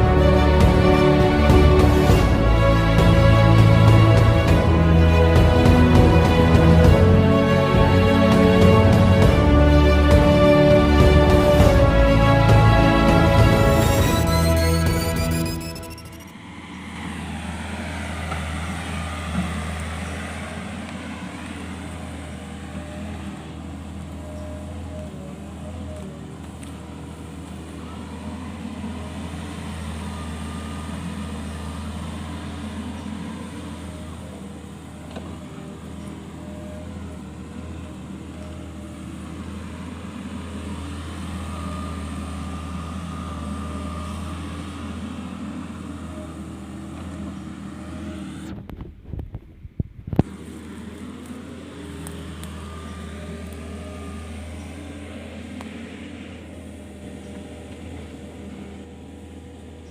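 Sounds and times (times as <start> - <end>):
hydraulic whine: 0.0 - 49.3, 50.1 - 59.9
excavator diesel engine running: 0.0 - 59.9.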